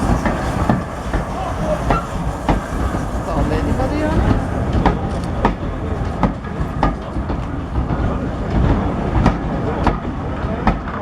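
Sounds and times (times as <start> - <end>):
low train rumble: 0.0 - 11.0
train wheels clacking over rail joints: 0.0 - 11.0.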